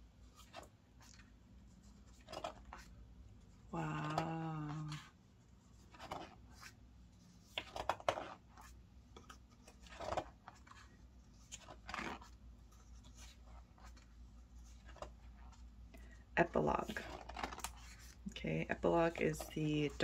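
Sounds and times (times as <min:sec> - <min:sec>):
book pages turning: 0:00.2 - 0:20.0.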